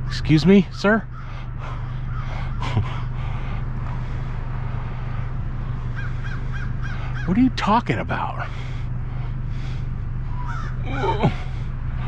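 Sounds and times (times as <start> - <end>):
vehicle engine idling: 0.0 - 12.0
faint crow caws: 0.9 - 7.6, 8.5 - 11.8.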